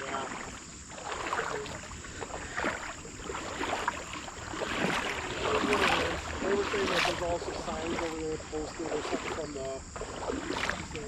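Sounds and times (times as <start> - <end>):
creek water splashing: 0.0 - 11.0.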